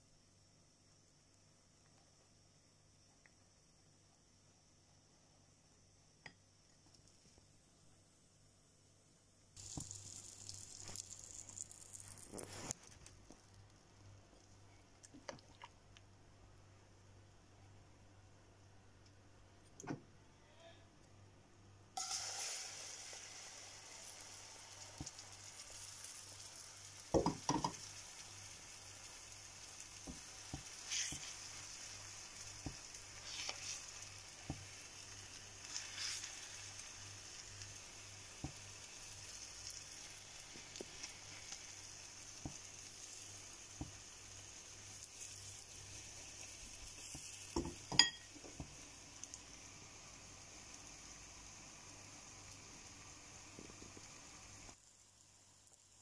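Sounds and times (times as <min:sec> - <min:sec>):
batter sizzling in a pan: 0:00.0 - 0:15.5, 0:22.0 - 0:56.0.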